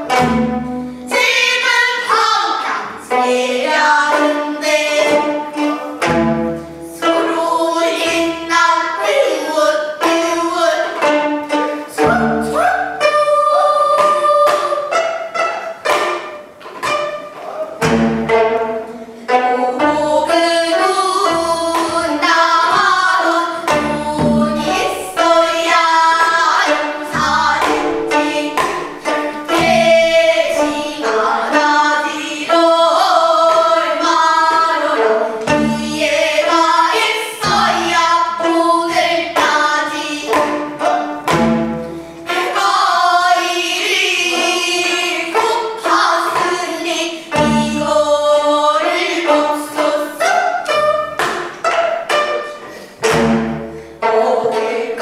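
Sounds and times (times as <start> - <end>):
girls singing: 0.0 - 55.0
plucked zithers: 0.0 - 55.0.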